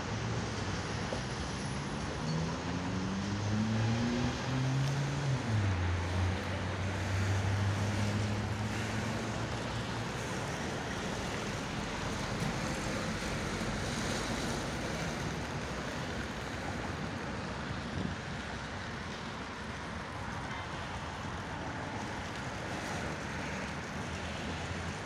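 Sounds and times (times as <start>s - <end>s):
distant traffic: 0.0s - 25.0s
wind: 0.0s - 25.0s.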